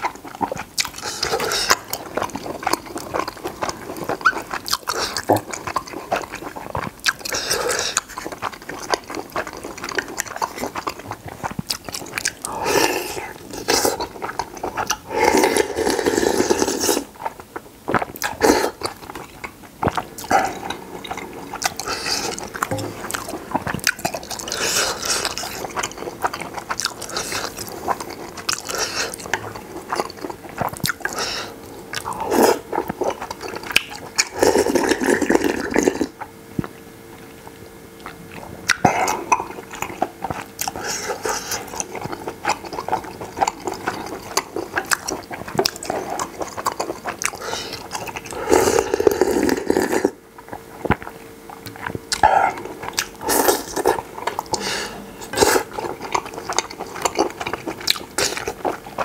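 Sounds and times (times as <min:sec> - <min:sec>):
noodles slurped: 0:00.0 - 0:36.2, 0:38.0 - 0:59.0
wet chewing with mouth clicks: 0:00.0 - 0:59.0.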